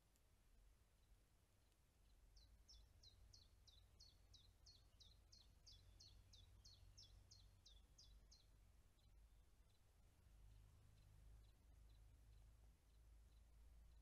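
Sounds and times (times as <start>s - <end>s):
faint low rumble: 0.0s - 14.0s.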